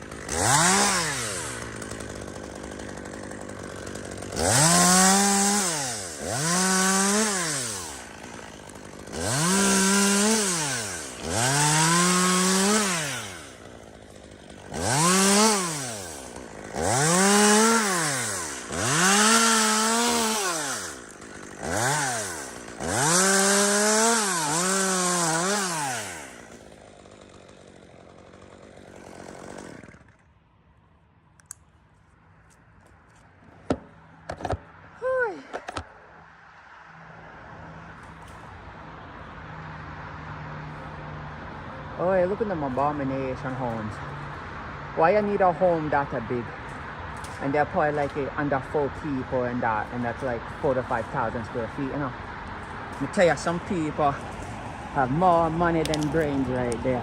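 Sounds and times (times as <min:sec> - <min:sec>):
chainsaw revving: 0:00.0 - 0:30.4, 0:40.6 - 0:57.0.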